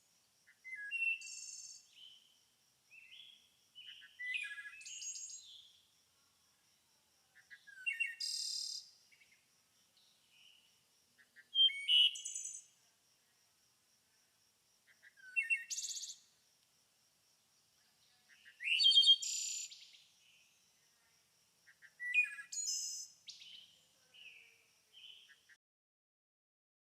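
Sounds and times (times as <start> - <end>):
songbird singing: 0.0 - 13.4, 14.1 - 16.4, 17.4 - 25.6.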